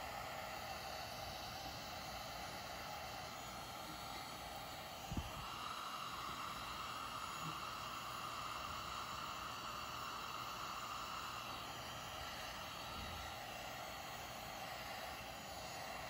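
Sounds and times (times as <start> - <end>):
heat gun blowing hiss: 0.0 - 16.0.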